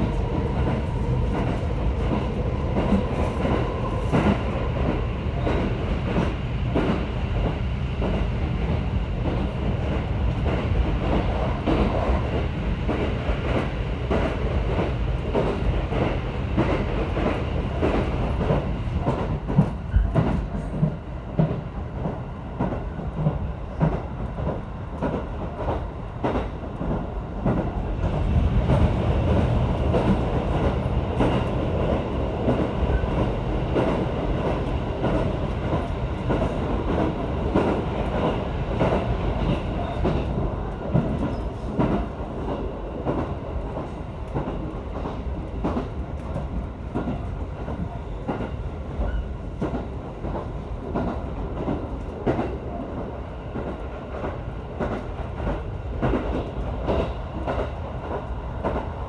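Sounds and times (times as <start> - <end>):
electric train rumbling: 0.0 - 59.0.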